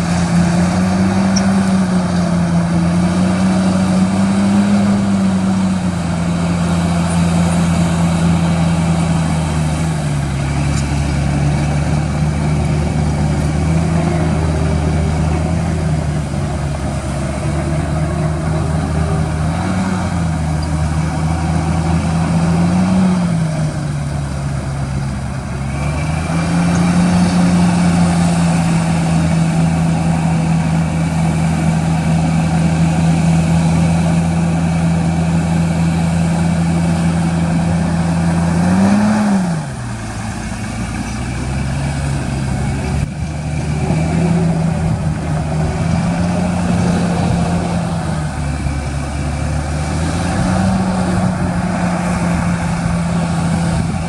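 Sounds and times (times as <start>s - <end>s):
large diesel engine under load: 0.0s - 54.0s.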